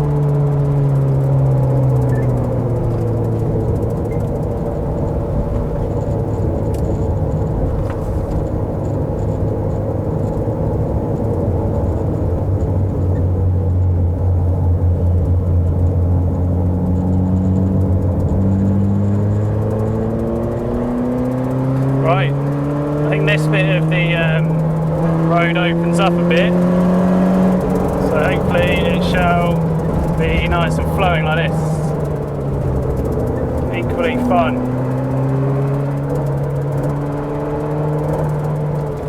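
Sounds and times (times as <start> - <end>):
car engine from inside cabin: 0.0 - 39.0
road noise: 0.0 - 39.0.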